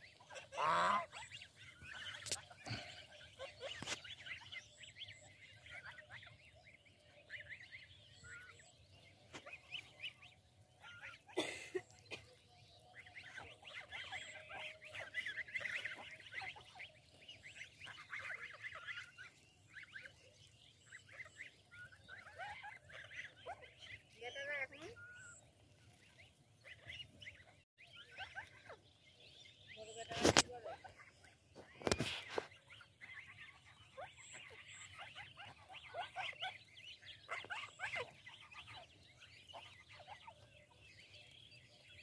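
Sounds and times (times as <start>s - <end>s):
geese and ducks calling: 0.0s - 42.0s.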